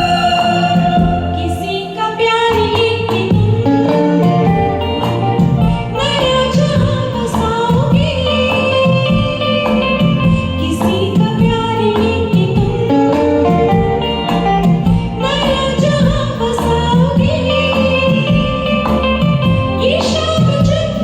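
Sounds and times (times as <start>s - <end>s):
karaoke backing track: 0.0s - 21.0s
woman singing: 0.0s - 21.0s.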